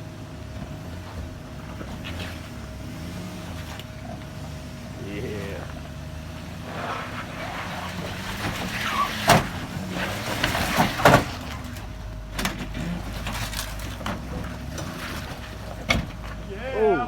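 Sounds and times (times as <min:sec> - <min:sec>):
off-road vehicle engine under load: 0:00.0 - 0:17.0.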